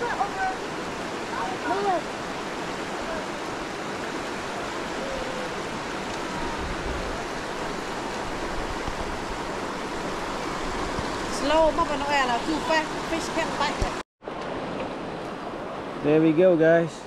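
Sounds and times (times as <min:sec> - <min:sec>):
river rushing over rapids: 0:00.0 - 0:16.8.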